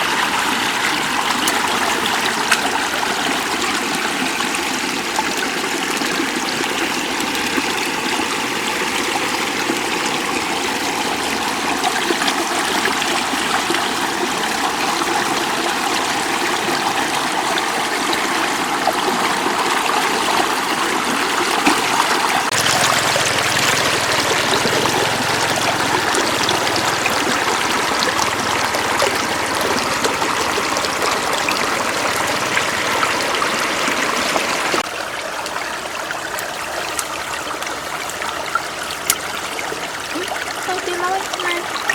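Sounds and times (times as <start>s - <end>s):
shallow water running and trickling: 0.0s - 41.9s.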